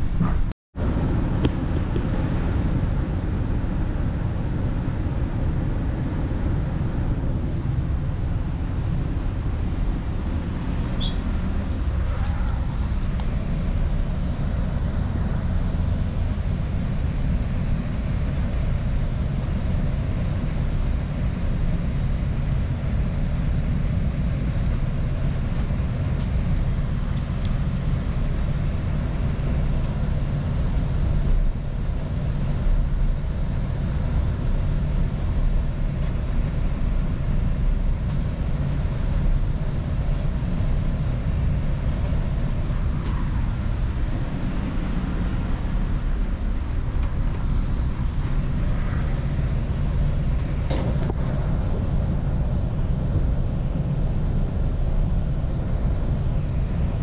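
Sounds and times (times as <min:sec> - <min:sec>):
diesel train rumbling: 0:00.0 - 0:57.0.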